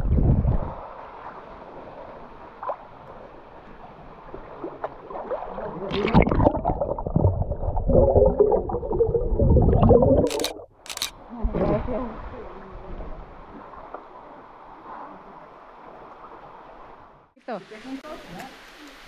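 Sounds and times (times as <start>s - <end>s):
underwater sloshing and bubbling: 0.0s - 17.4s
water lapping and gurgling: 0.0s - 19.0s.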